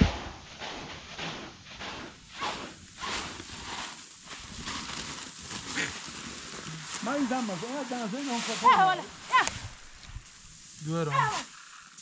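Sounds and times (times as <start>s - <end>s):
grain rustling as scooped: 0.0s - 11.8s.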